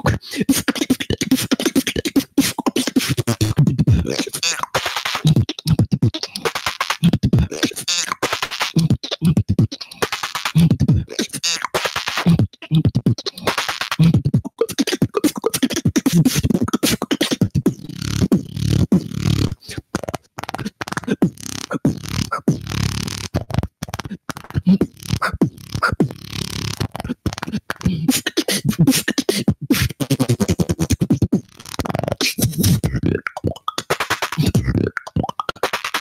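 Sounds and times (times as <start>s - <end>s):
person beatboxing into a microphone: 0.0s - 36.0s.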